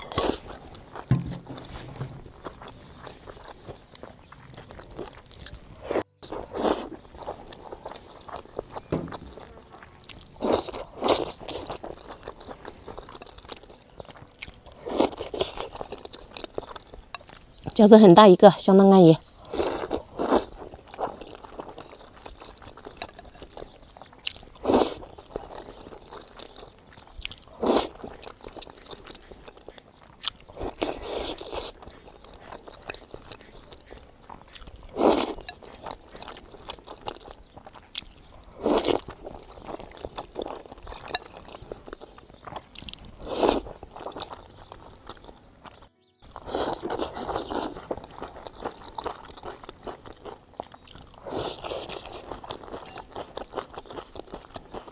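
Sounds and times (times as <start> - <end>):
person crunching and chewing: 0.0 - 17.8, 19.2 - 54.9
quiet background music: 0.0 - 54.9.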